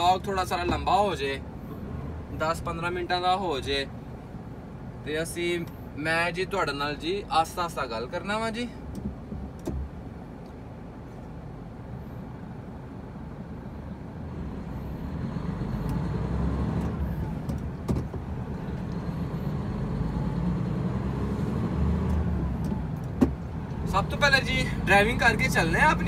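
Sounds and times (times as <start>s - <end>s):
road noise: 0.0s - 26.0s
truck engine rumble: 0.0s - 26.0s.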